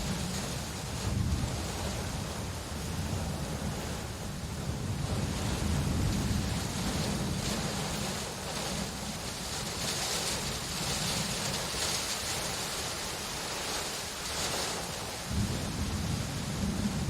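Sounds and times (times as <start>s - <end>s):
low thunder rumble: 0.0s - 13.2s, 15.2s - 17.0s
steady rain hiss: 0.0s - 17.0s.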